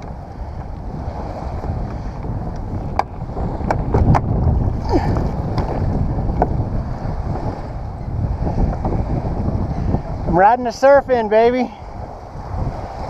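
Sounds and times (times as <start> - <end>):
waves slapping against kayak: 0.0 - 13.0
wind buffeting microphone: 0.0 - 13.0.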